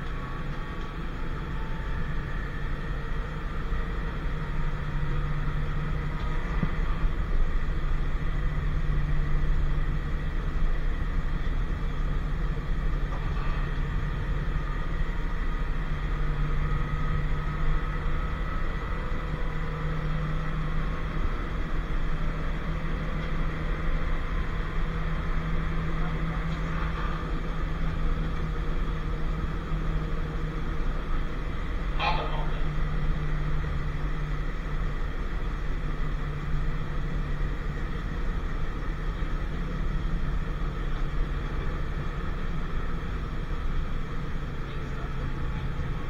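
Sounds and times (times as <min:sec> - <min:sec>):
tram rumble and motor hum: 0:00.0 - 0:46.0.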